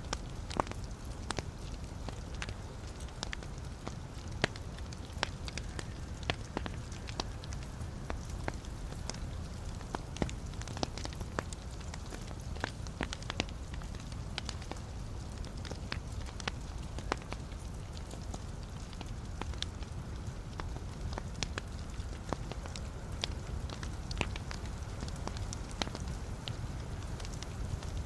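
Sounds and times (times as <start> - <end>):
burning logs crackling and popping: 0.0 - 28.0
fire flames rumbling: 0.1 - 28.0.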